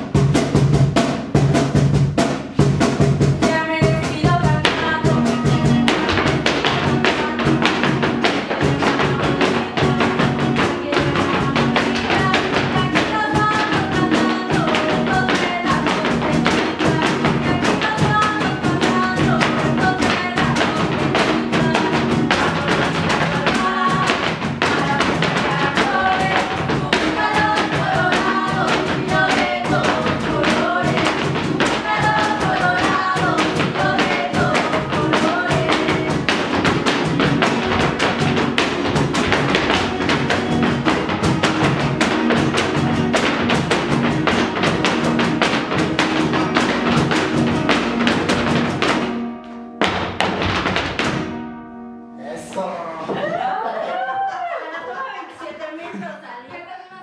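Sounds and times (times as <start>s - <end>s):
dancers' feet tapping: 2.7s - 51.7s, 52.5s - 54.6s.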